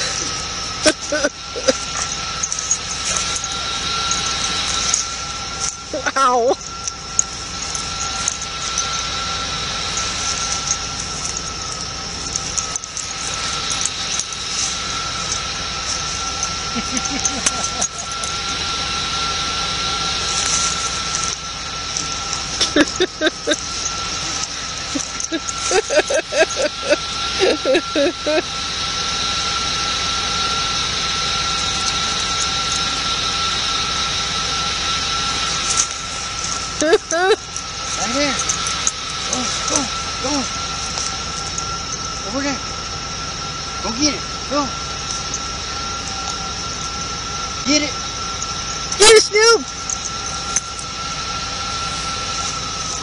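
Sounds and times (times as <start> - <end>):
faint whine: 0.0 - 53.0
high hiss: 0.0 - 53.0.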